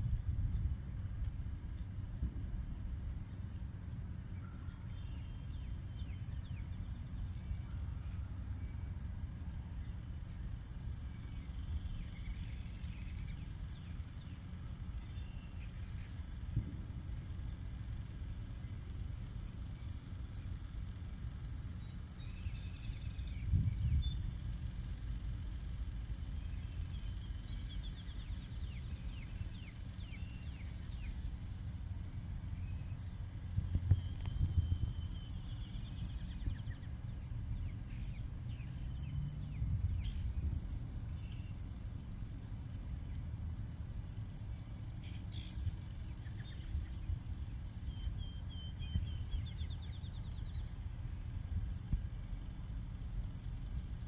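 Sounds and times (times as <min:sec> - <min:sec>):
low rumble: 0:00.0 - 0:54.0.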